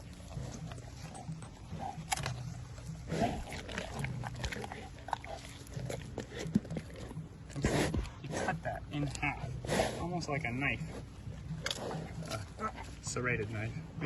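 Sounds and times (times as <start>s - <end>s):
tiger crunching bones: 0.0s - 14.0s.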